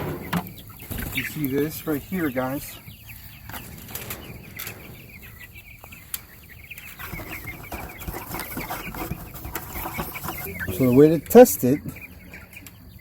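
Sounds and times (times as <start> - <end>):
chickens peeping and clucking: 0.0 - 13.0.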